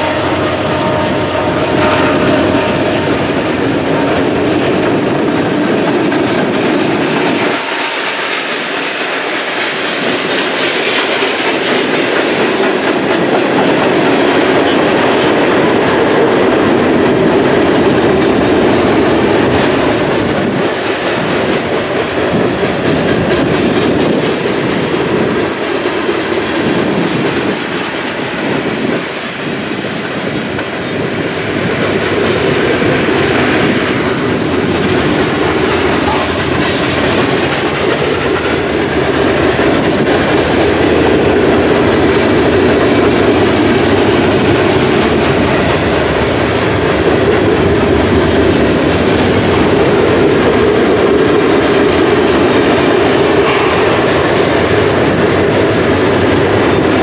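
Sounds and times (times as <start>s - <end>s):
diesel locomotive engine: 0.0s - 57.0s
train wheels clacking on rails: 0.0s - 57.0s.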